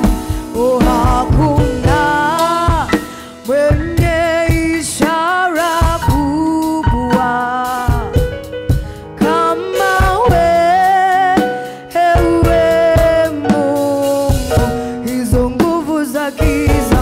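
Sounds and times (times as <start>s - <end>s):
singers on microphones: 0.0s - 8.3s, 9.2s - 17.0s
drums: 0.0s - 17.0s
keyboard: 0.0s - 17.0s.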